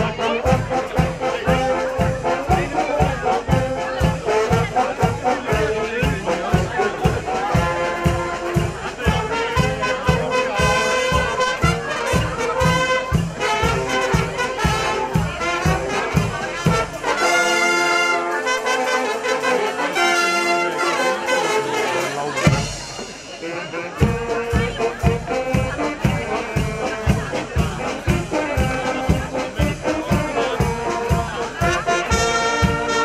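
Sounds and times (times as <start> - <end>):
drum kit beat: 0.0 - 18.4, 22.4 - 33.0
brass band playing: 0.0 - 33.0.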